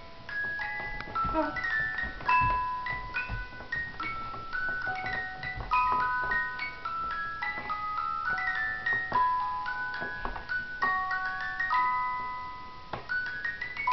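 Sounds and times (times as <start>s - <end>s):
music box playing: 0.0s - 13.9s.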